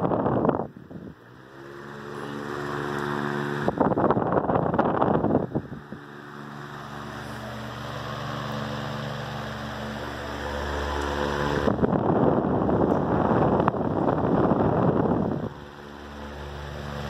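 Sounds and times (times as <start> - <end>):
electric fan humming: 0.0 - 17.0
air rushing over microphone: 2.3 - 17.0.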